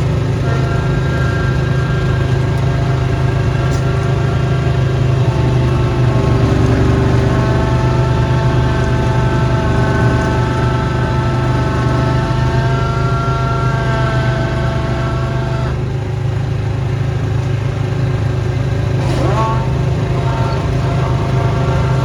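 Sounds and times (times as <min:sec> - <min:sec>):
small gasoline engine running: 0:00.0 - 0:22.0.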